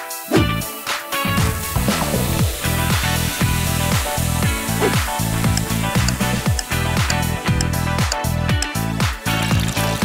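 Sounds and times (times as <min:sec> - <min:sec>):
upbeat music with drum beat: 0:00.0 - 0:10.0.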